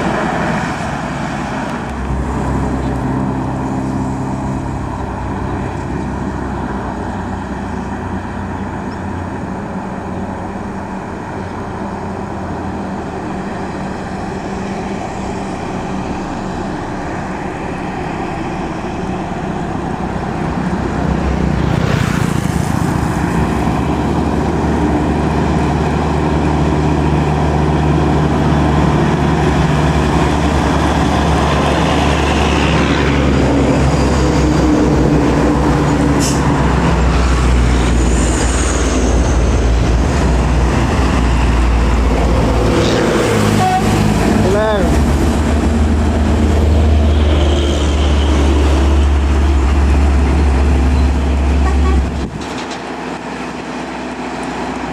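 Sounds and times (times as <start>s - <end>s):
heavy diesel traffic passing: 0.0s - 54.9s.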